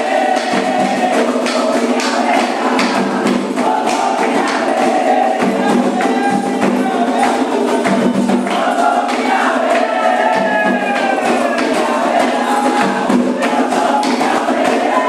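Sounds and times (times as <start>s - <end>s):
group singing: 0.0s - 15.0s
hand percussion: 0.0s - 15.0s.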